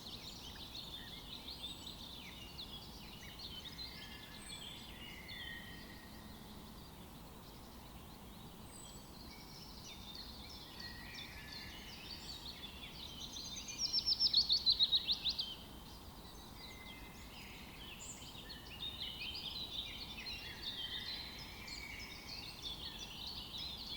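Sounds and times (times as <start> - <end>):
songbirds chirping and singing: 0.0 - 23.9.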